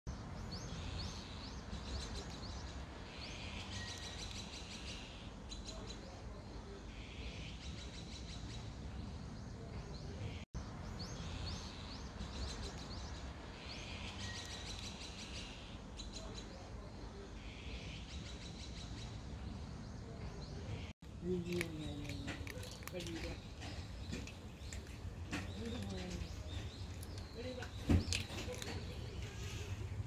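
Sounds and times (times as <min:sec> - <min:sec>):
songbirds chirping and trilling: 0:00.1 - 0:30.0.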